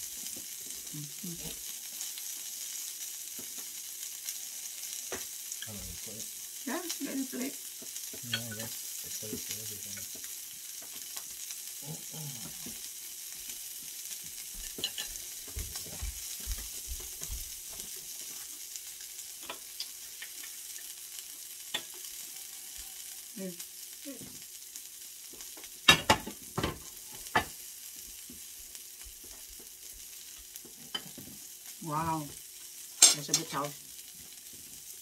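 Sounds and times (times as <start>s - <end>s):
steak sizzling on a grill: 0.0s - 35.0s.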